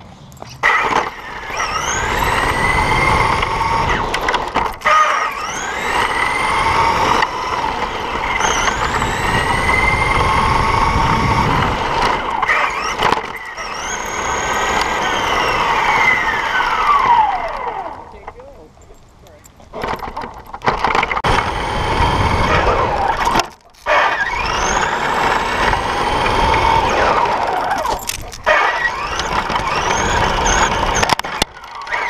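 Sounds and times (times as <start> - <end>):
tyres rumbling on asphalt: 0.0 - 32.0
rc car motor whine: 0.6 - 18.4, 20.6 - 32.0.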